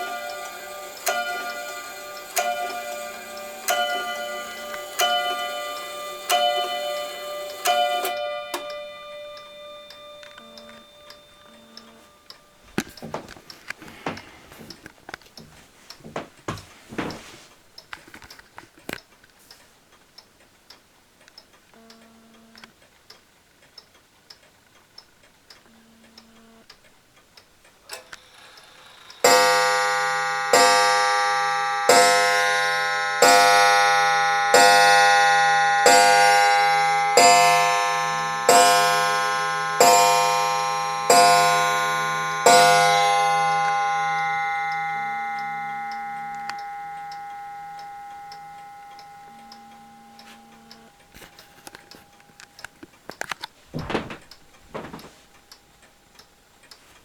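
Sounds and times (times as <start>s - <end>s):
clock striking the hour: 0.0s - 17.3s, 27.9s - 56.8s
clock ticking: 0.0s - 18.0s, 19.0s - 57.0s.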